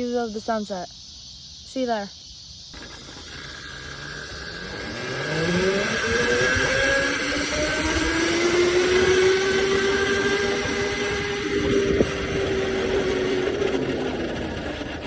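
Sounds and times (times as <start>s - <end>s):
electric motor whining: 2.8s - 15.0s
wind and tyre noise: 2.8s - 15.0s.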